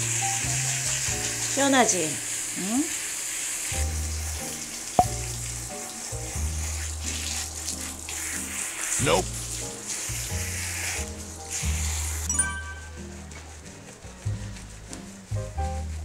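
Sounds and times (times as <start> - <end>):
shower head spraying water: 0.0 - 13.8.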